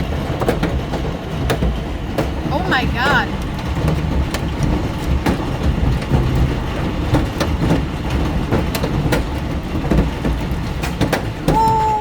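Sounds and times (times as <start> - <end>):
hailstones hitting car roof: 0.0 - 12.0.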